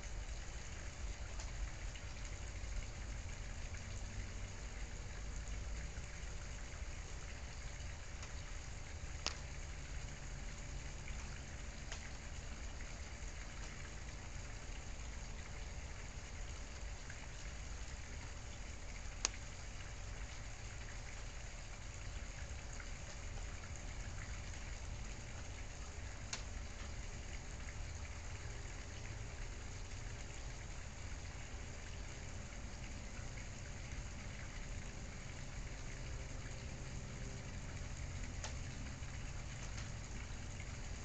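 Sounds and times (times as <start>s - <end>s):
steady hiss with low rumble: 0.0s - 41.0s.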